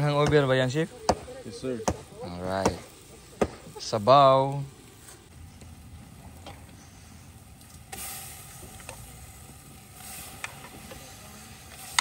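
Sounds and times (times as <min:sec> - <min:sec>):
gas burner rumbling: 0:00.0 - 0:12.0.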